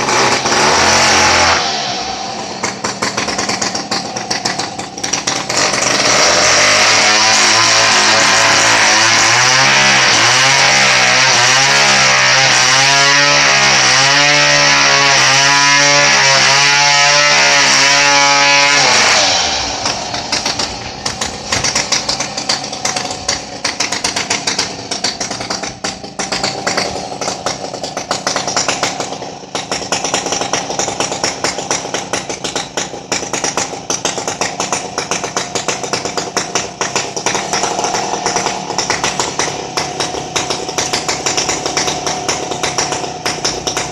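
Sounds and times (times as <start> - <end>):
chainsaw engine rattling: 0.0 - 43.9.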